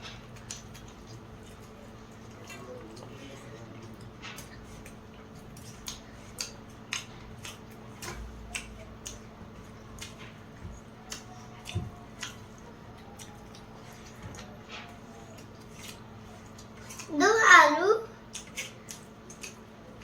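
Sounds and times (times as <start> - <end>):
chewing: 0.0 - 17.2, 18.0 - 20.0
steady low hum: 0.0 - 20.0.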